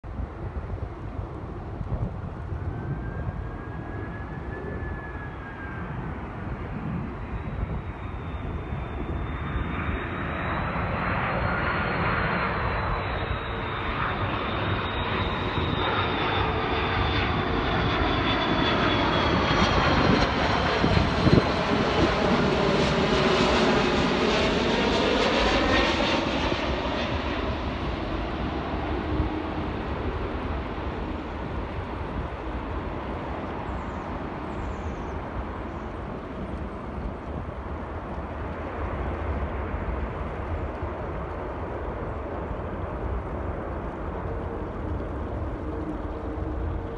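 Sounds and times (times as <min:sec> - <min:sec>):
jet airliner roar and whine: 0:00.0 - 0:46.9.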